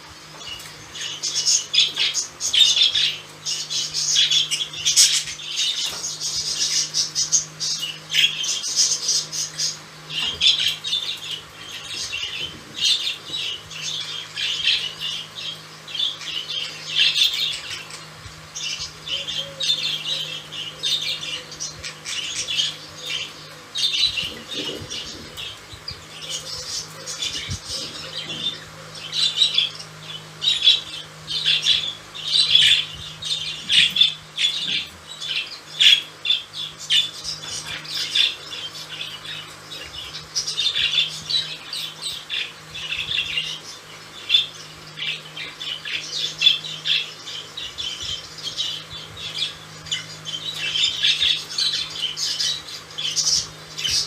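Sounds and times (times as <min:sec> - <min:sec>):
budgerigars chattering and squawking: 0:00.0 - 0:54.0
steady low hum: 0:00.0 - 0:54.0.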